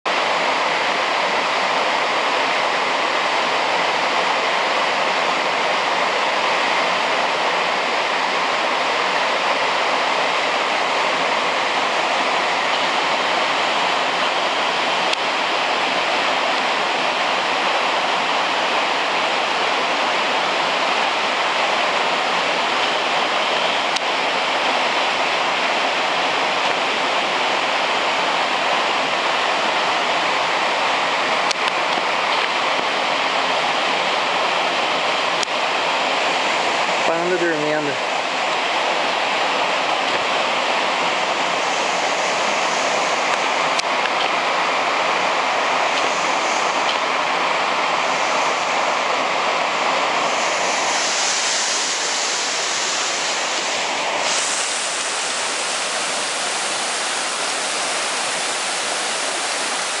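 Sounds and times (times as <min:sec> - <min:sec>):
waterfall rushing: 0:00.1 - 1:00.0.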